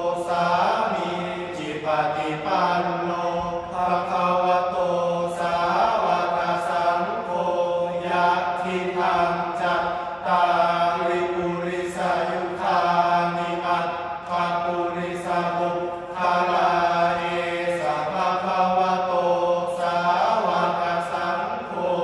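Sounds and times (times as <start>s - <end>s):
young men chanting in unison: 0.0s - 22.0s.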